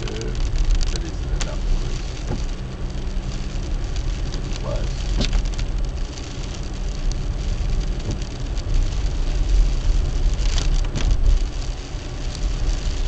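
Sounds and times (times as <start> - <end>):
car driving rumble: 0.0 - 13.0
wet tyres hiss: 0.0 - 13.0.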